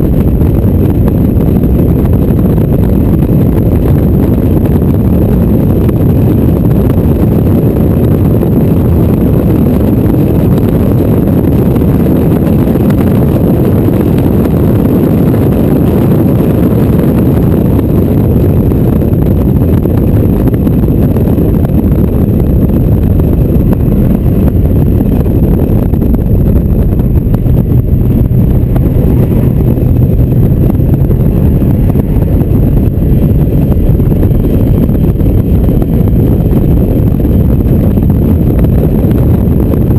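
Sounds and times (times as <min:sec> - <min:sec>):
car engine running hard: 0:00.0 - 0:39.9
wind buffeting microphone: 0:00.0 - 0:39.9.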